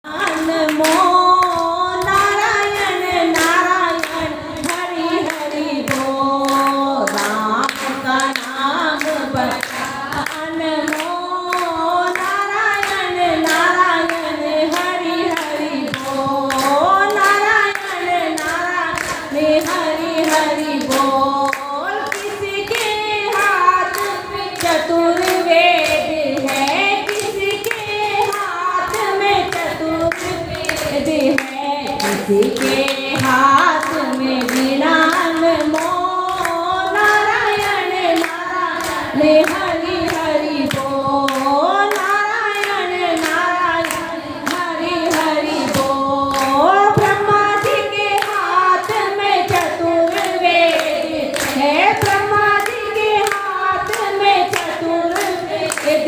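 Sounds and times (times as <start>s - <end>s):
rhythmic hand clapping: 0.0s - 56.0s
women singing in chorus: 0.0s - 56.0s.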